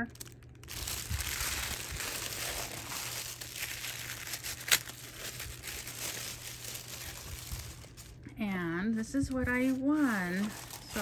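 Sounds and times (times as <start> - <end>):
wrapping paper crinkling: 0.0 - 8.3, 9.4 - 11.0.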